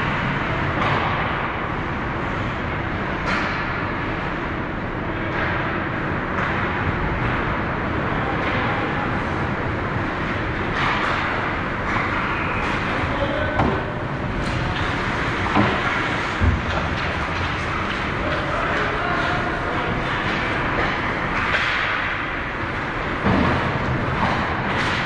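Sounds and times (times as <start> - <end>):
steady rink rumble: 0.0 - 25.0.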